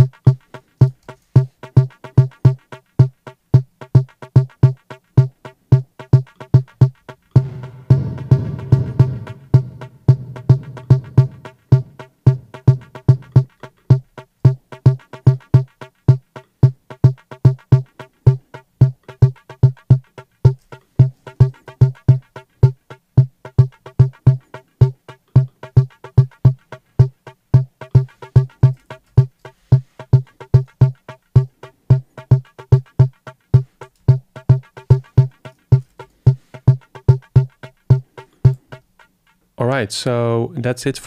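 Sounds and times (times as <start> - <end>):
looped electronic drum hits: 0.0 - 39.4.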